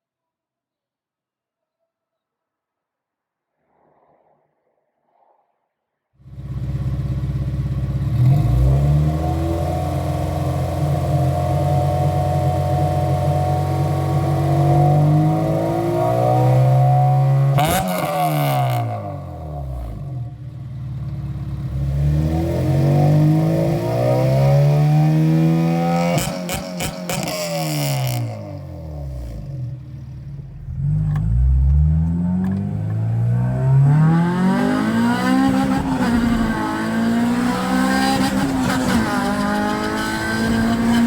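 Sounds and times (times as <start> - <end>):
car engine revving: 6.3 - 41.0.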